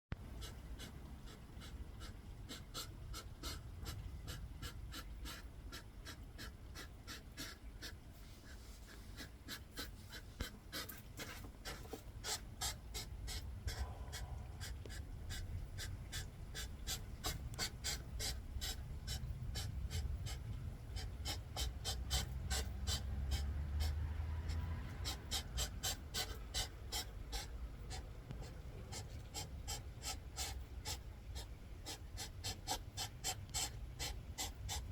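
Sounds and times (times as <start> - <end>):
hedgehogs huffing: 0.4 - 8.0, 9.1 - 11.0, 11.7 - 34.9.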